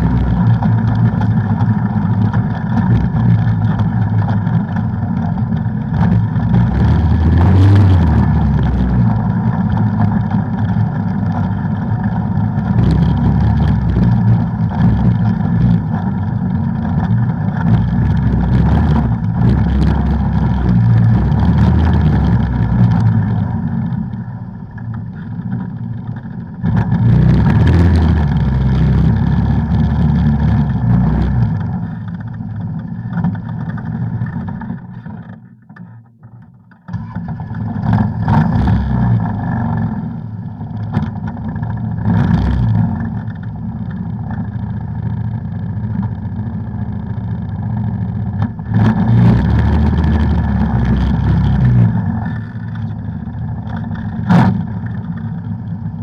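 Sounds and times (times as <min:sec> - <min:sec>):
atv engine running: 0:00.0 - 0:36.1, 0:37.0 - 0:56.0.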